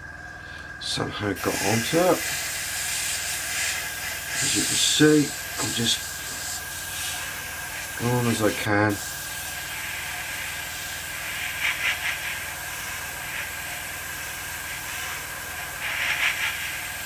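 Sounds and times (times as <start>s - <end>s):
airbrush hissing: 1.4s - 17.0s.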